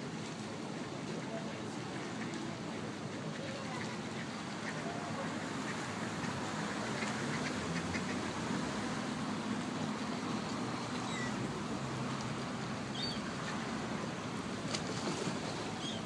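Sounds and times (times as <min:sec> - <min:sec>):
outdoor noise: 0:00.0 - 0:16.0
boat engine humming: 0:00.1 - 0:16.0.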